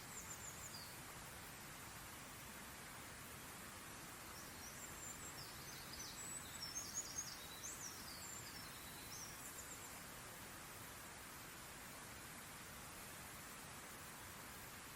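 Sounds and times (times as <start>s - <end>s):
faint outdoor hiss: 0.0s - 14.9s.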